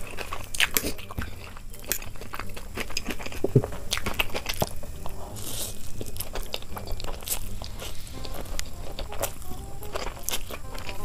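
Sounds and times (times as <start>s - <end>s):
noodle slurp: 0.0s - 9.4s
wet chewing and mouth smacks: 0.0s - 11.0s.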